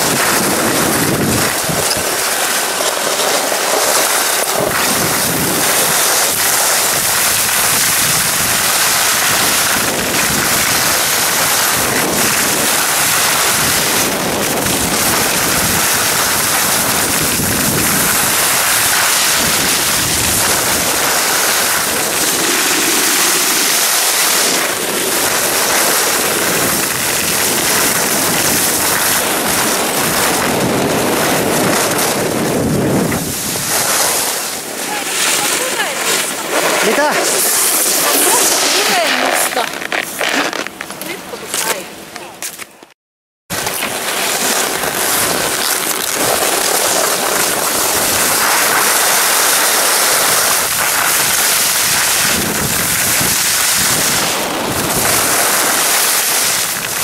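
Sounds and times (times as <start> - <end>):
wind over microphone: 0.0 - 42.4, 43.5 - 57.0
skis scraping packed snow: 0.0 - 42.9, 43.5 - 57.0.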